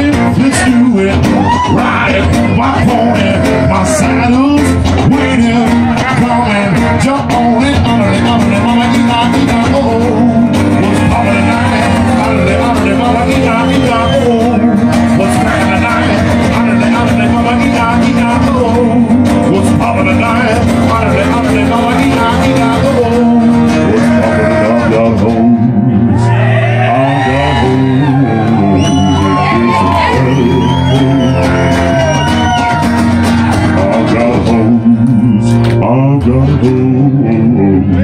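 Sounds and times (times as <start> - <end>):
acoustic guitars strummed: 0.0 - 38.0
man singing into a microphone: 0.0 - 38.0.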